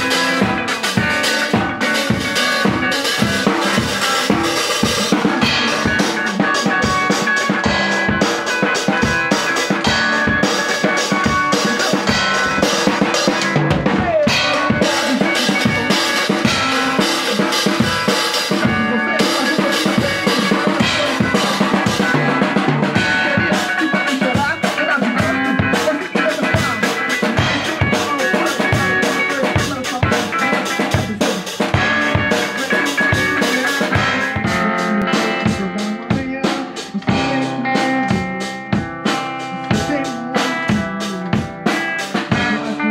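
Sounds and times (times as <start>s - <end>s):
drum kit beat: 0.0s - 42.9s
electric guitar: 0.0s - 42.9s.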